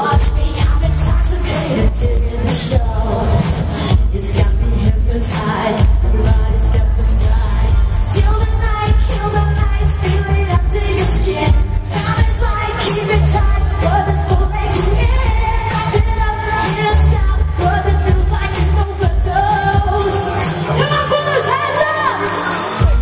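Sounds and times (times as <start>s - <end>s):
electronic beat and synths: 0.0s - 23.0s
woman singing: 0.0s - 23.0s.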